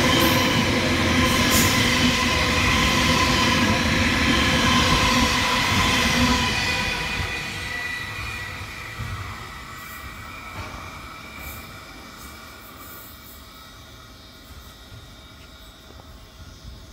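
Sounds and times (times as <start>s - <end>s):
train wheels rumbling: 0.0s - 16.9s.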